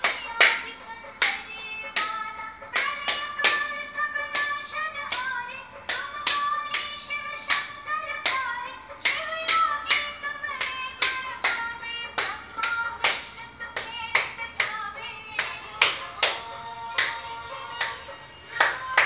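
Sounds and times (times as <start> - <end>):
hands clapping in even beat: 0.0 - 2.2, 2.8 - 5.3, 5.9 - 14.8, 15.4 - 16.4, 17.0 - 19.0.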